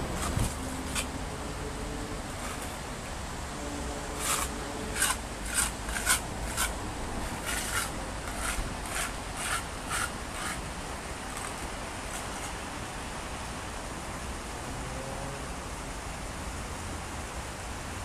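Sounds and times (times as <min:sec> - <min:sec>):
low hum of city background: 0:00.0 - 0:18.0.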